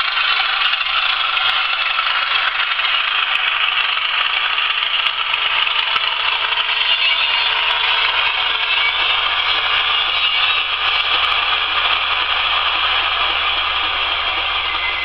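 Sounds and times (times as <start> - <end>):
diesel engine sound from model: 0.0 - 15.0.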